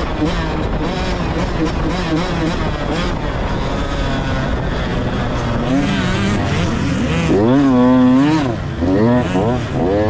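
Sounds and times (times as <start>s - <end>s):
dirt bike engine revving: 0.0s - 10.0s
steady rushing noise: 0.0s - 10.0s.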